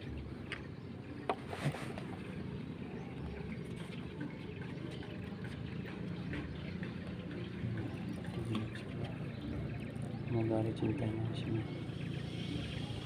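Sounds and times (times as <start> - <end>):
water lapping against wooden platform: 0.0 - 13.0.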